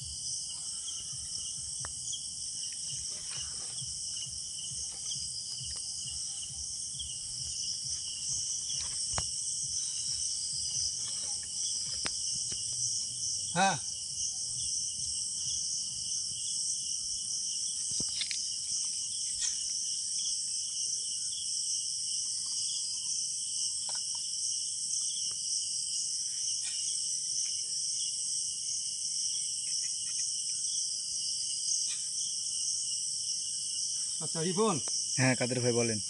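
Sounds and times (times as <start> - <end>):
crickets chirring: 0.0 - 36.0.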